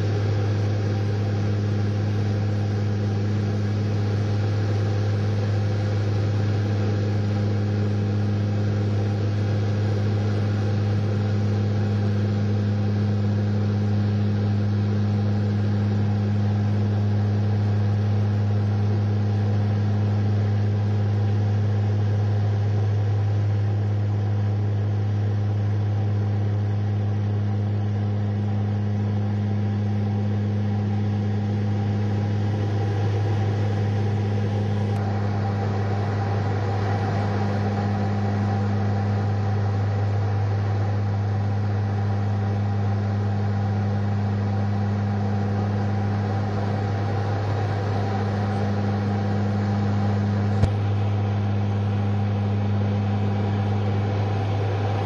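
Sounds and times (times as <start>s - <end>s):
propeller plane cabin drone: 0.0s - 55.0s.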